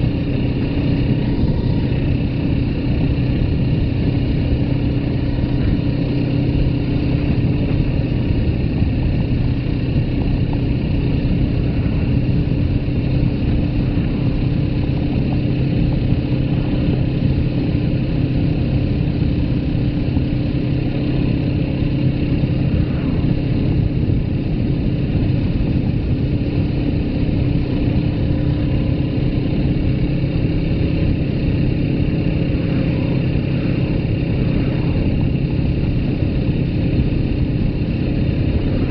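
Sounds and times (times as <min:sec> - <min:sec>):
motorcycle engine running: 0:00.0 - 0:38.9
wind and road rush: 0:00.0 - 0:38.9.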